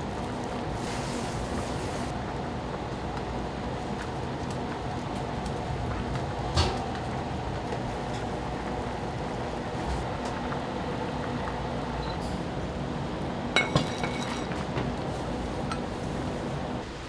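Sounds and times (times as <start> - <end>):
ventilation hum and hiss: 0.0 - 17.0.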